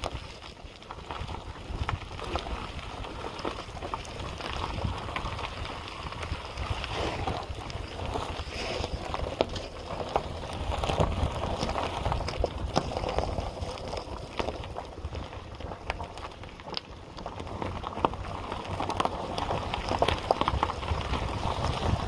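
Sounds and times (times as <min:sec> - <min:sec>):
wind buffeting microphone: 0:00.9 - 0:16.3, 0:17.3 - 0:22.0.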